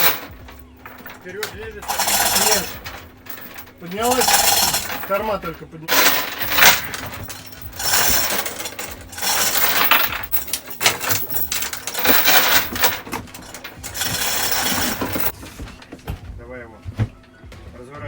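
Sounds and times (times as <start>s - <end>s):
lifting gear clinking and ratcheting: 0.0s - 15.4s.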